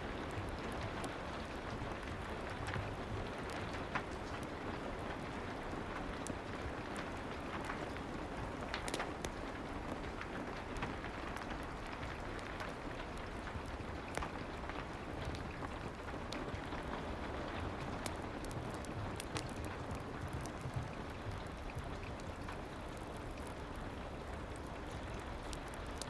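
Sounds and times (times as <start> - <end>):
sharp rain ticks: 0.0 - 26.0
soft rain hiss: 0.0 - 26.0.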